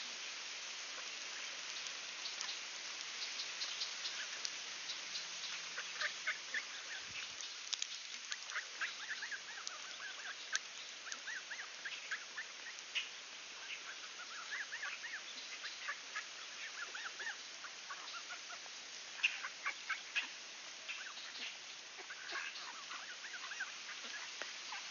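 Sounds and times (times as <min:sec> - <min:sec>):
steady hiss: 0:00.0 - 0:24.9
ducks calling: 0:03.2 - 0:24.9.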